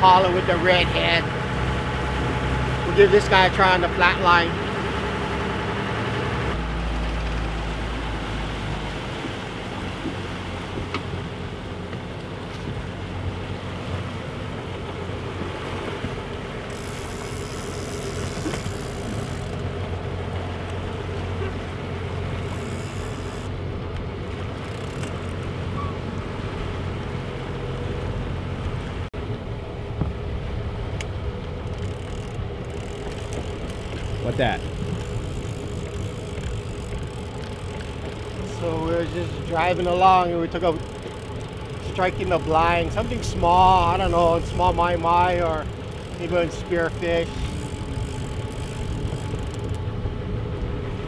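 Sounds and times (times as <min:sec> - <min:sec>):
boat engine running: 0:00.0 - 0:51.0
water rushing past hull: 0:00.0 - 0:51.0.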